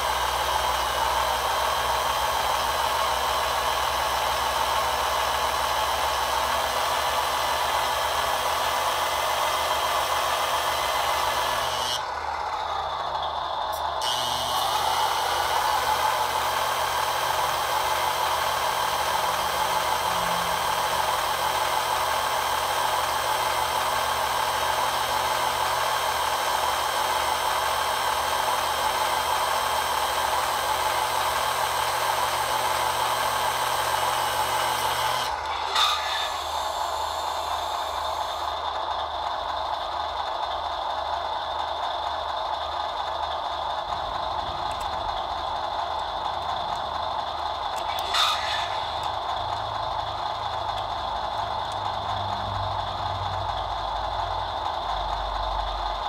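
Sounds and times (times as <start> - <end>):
electric hydraulic pump running: 0.0 - 56.0.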